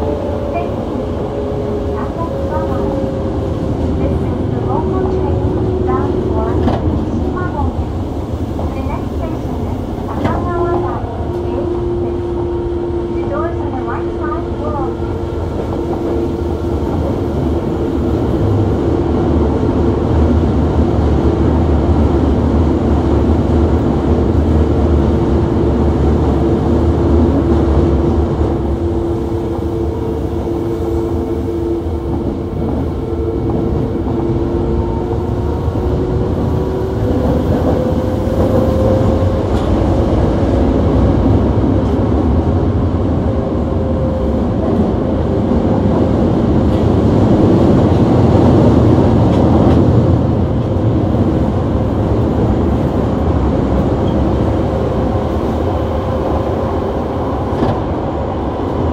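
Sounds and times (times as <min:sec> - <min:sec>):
subway car running rumble: 0:00.0 - 0:58.9.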